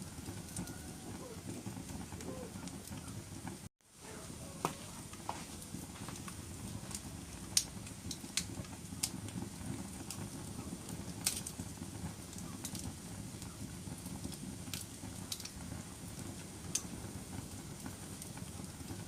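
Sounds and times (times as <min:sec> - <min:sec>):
flames rustling: 0:00.0 - 0:19.0
wood crackling and popping: 0:00.0 - 0:19.0.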